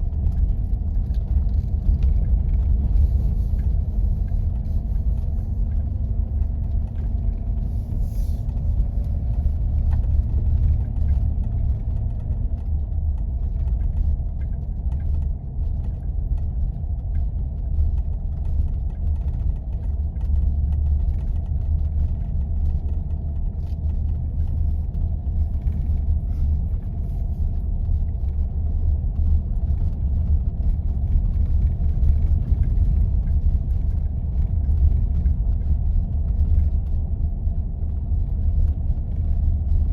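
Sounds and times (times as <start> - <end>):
engine and tyres rumbling: 0.0 - 39.9.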